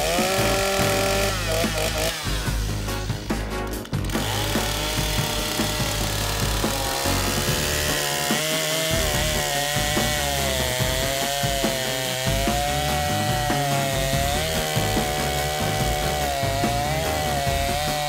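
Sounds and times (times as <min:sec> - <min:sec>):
band sawmill cutting log: 0:00.0 - 0:18.0.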